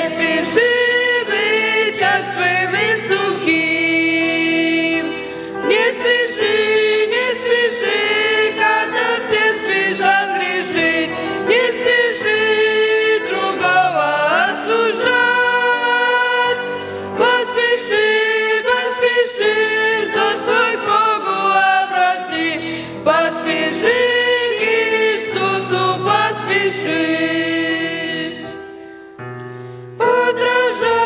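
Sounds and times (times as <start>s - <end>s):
boys singing a hymn: 0.0s - 28.6s, 30.0s - 31.0s
piano accompaniment: 0.0s - 31.0s.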